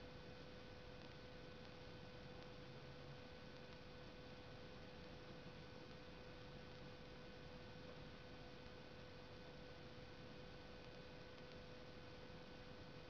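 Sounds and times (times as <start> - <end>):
constant hum: 0.0 - 13.0
faint steady hiss: 0.0 - 13.0.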